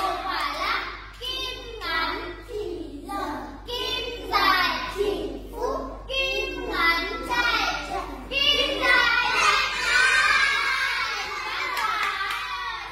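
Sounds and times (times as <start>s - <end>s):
children singing together: 0.0s - 12.9s.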